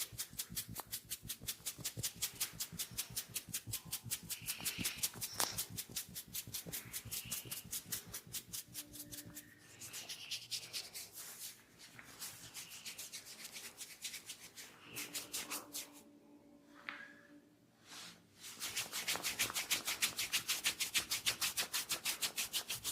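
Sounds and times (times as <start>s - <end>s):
hands rubbing hair and scalp: 0.0s - 16.0s, 17.9s - 22.9s.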